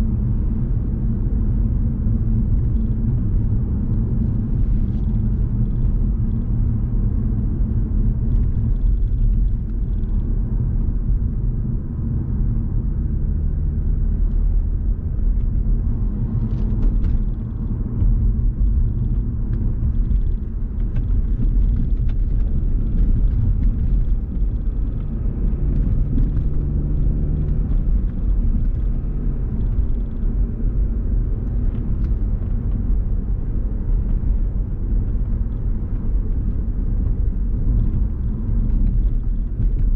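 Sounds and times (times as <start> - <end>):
car driving road rumble: 0.0 - 39.9.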